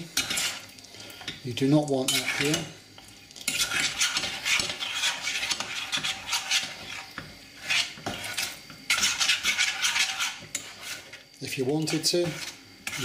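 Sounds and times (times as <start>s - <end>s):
utensil scraping saucepan: 0.0s - 13.0s.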